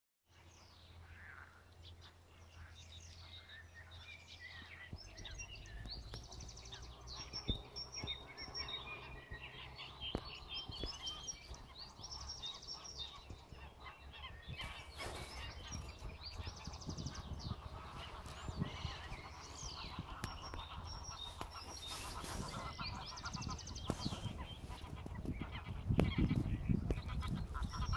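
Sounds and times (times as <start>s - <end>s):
songbirds singing and chirping: 0.3s - 27.9s.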